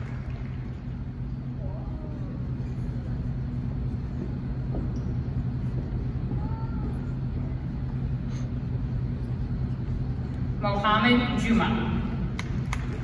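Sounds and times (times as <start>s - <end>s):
low hum and rumble of arena hall: 0.0s - 13.0s.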